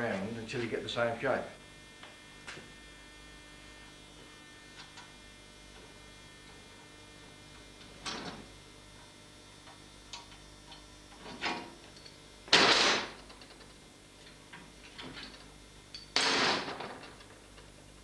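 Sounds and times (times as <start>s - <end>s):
low mains hum: 0.0s - 18.0s.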